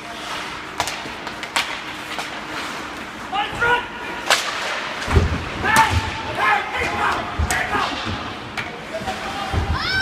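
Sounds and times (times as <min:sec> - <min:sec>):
hockey sticks and puck clacking: 0:00.0 - 0:09.7.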